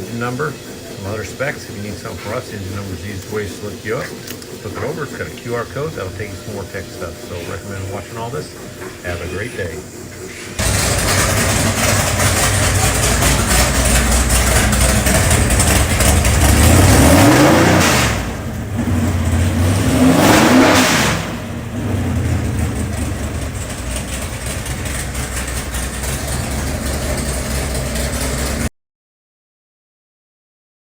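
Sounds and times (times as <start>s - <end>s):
car engine revving: 0.0s - 28.7s.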